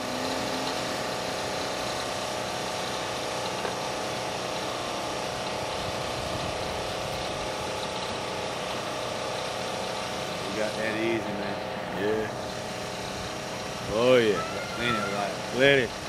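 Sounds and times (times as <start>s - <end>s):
model plane engine droning: 0.0s - 16.0s.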